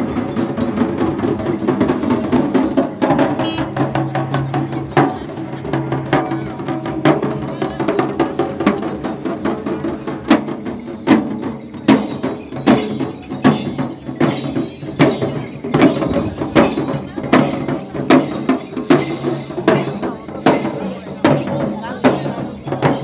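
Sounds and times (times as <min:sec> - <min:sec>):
frame drum beaten with stick: 0:00.0 - 0:23.0.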